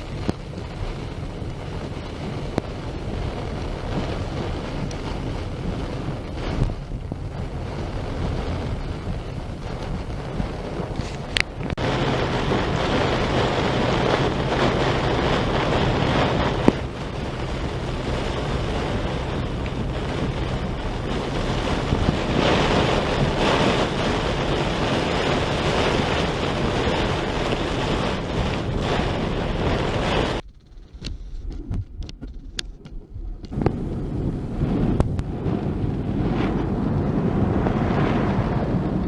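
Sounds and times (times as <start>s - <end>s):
heavy rain pouring: 0.0s - 30.4s, 33.5s - 39.0s
wind buffeting microphone: 0.0s - 39.0s.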